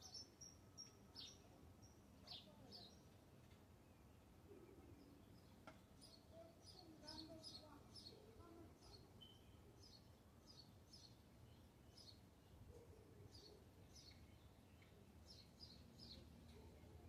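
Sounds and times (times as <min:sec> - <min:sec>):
faint birdsong with downward chirps: 0:00.0 - 0:17.0.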